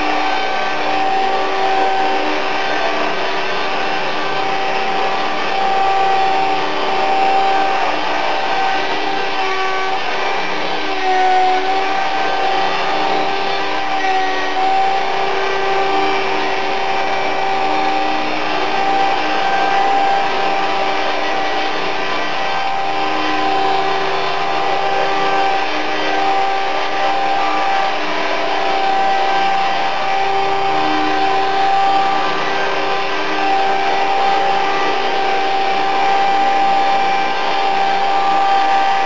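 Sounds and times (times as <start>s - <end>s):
rc helicopter rotor whine: 0.0s - 39.0s.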